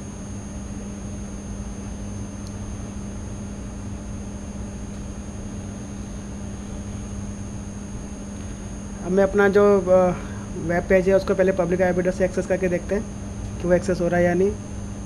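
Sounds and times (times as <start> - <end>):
faint high whine: 0.0 - 15.0
steady background hum: 0.0 - 15.0.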